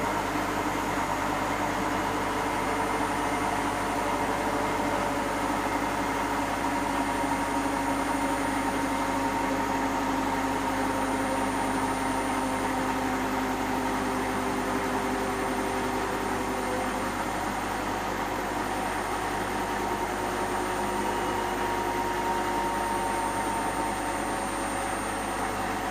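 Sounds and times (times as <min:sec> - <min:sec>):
washing machine spinning: 0:00.0 - 0:25.9.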